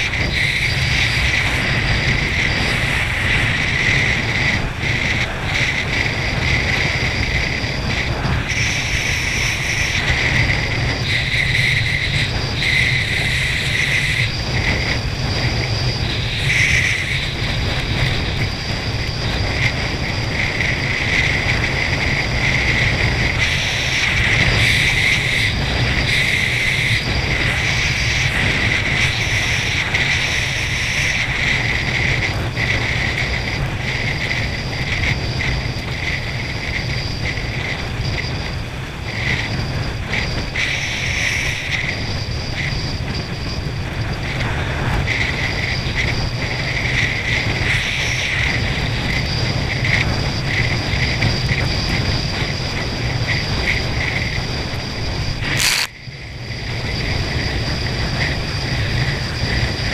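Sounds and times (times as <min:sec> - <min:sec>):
wind rushing: 0:00.0 - 0:35.8, 0:36.8 - 0:59.9.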